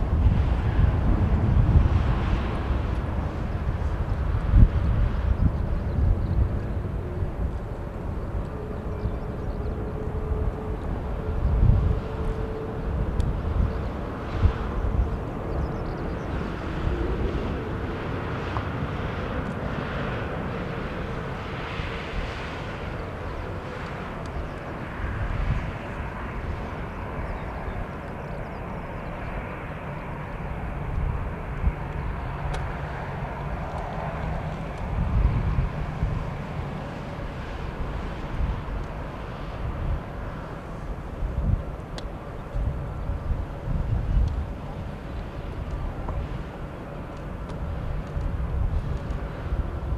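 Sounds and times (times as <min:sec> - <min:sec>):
jet engines humming: 0:00.0 - 0:49.9
wind buffeting microphone: 0:00.0 - 0:49.9.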